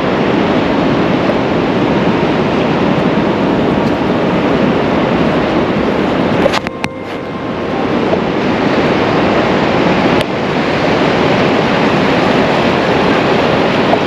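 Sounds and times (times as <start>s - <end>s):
surf at shoreline: 0.0s - 14.0s.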